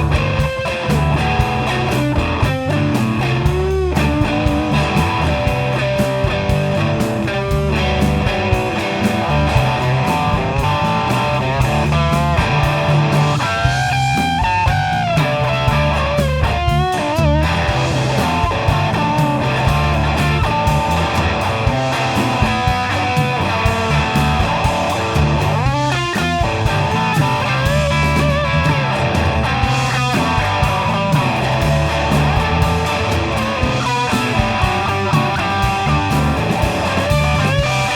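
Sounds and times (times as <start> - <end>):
bass line: 0.0 - 37.9
drums: 0.0 - 37.9
electric guitar lead: 0.0 - 37.9.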